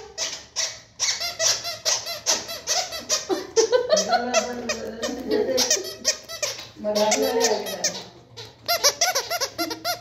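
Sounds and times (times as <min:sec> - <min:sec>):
rubber squeaky toy squeaking: 0:00.0 - 0:10.0.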